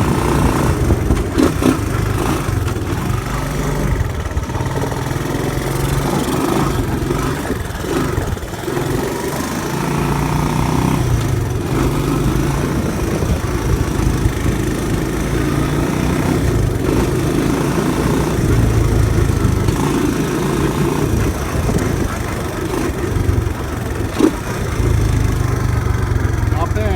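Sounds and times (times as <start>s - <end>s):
single-cylinder engine revving: 0.0s - 26.9s.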